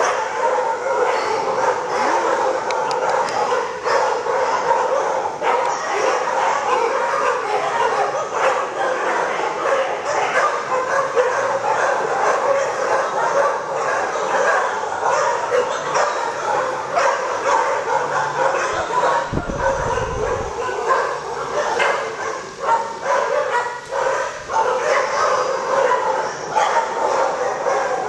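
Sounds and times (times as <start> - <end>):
many dogs barking and yelping: 0.0 - 28.0.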